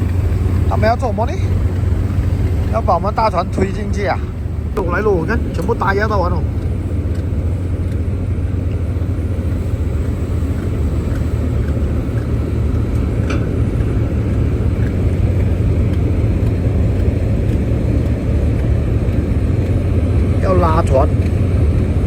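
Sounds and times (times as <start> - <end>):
low rumble of diesel engines: 0.0 - 22.0.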